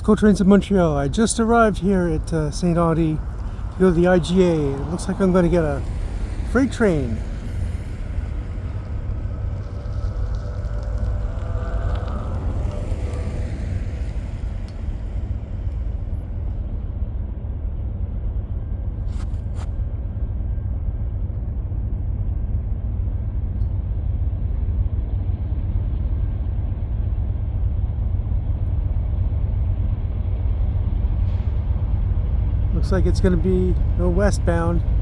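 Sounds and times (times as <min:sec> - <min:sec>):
diesel locomotive rumble: 0:00.0 - 0:35.0.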